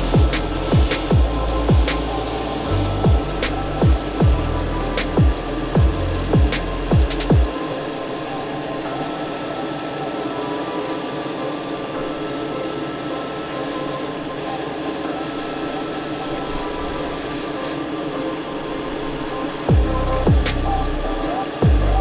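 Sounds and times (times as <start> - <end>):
airbrush spraying hiss: 0.0 - 17.8.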